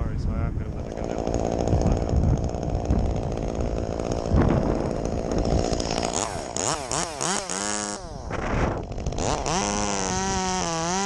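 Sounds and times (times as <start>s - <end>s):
chainsaw running and revving: 0.6s - 11.0s.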